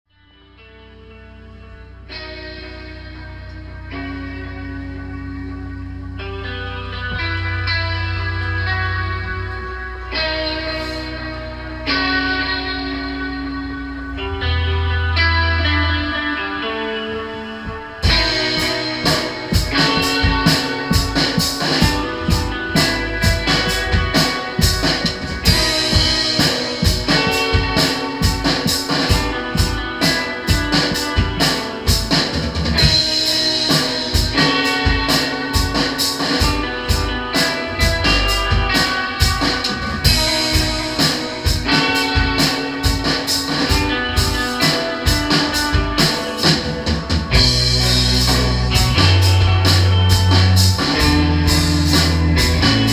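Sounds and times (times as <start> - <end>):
bass guitar: 0.1 - 52.9
electric guitar: 0.1 - 52.9
drum kit: 6.3 - 52.9.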